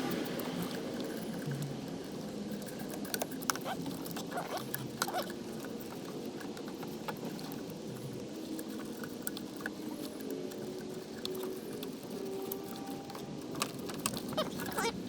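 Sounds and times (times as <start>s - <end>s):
clicks taps and scratching: 0.0s - 15.0s
low background hum: 0.0s - 15.0s.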